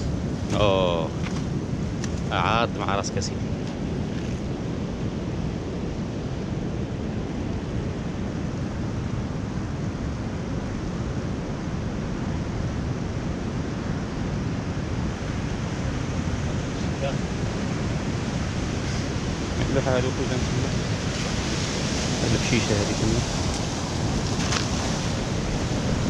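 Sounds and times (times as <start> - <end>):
sea surf rushing: 0.0 - 26.0
wind buffeting microphone: 0.0 - 26.0.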